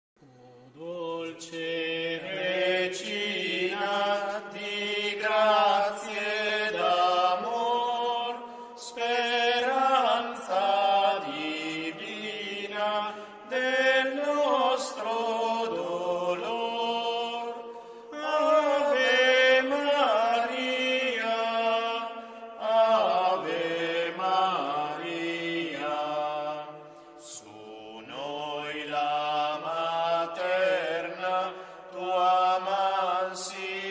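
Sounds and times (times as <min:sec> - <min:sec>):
voices singing slow chant: 0:00.2 - 0:33.9.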